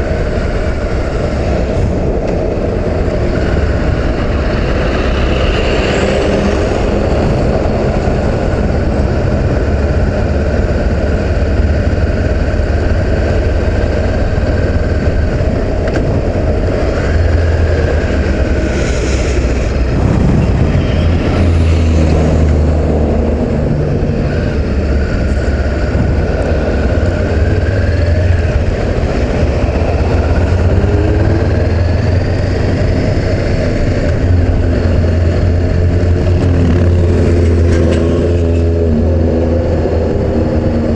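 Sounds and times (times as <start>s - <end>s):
motorcycle engine cruising: 0.0s - 40.9s
road noise: 0.0s - 40.9s
wind rush: 0.0s - 40.9s.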